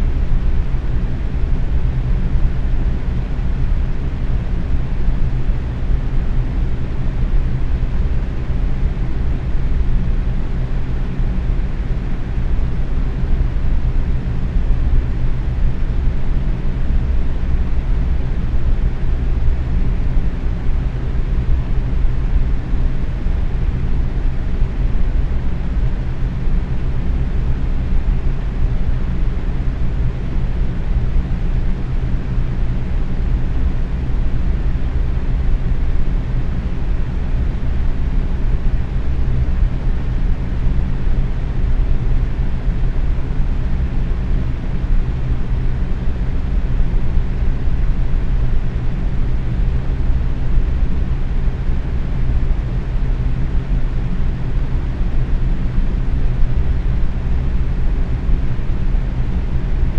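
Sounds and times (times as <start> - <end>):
box fan running: 0.0 - 59.9.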